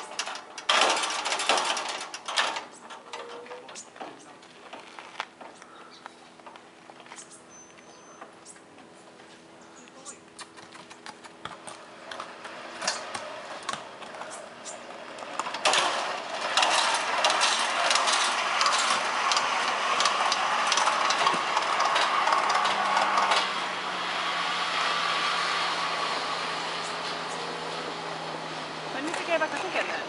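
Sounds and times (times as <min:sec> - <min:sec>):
trolleys clattering on cableway: 0:00.0 - 0:06.6, 0:12.1 - 0:30.0.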